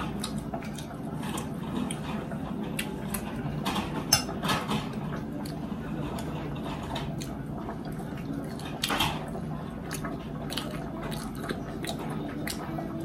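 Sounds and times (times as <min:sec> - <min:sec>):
chewing and wet mouth sounds: 0:00.0 - 0:13.0.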